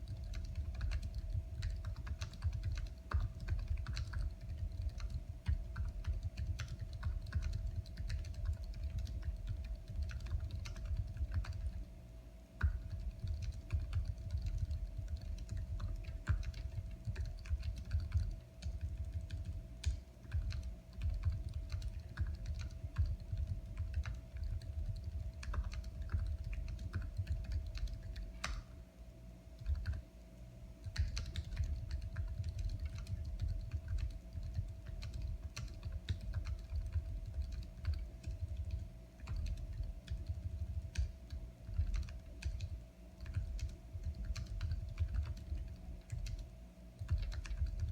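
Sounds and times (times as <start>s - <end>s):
keyboard keystroke clicks: 0.0s - 11.8s, 12.6s - 28.7s, 30.8s - 47.9s
faint steady hum: 0.0s - 47.9s.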